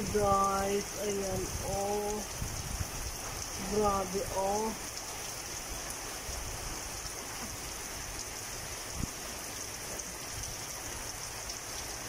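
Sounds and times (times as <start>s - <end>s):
heavy rain on leaves: 0.0s - 12.0s.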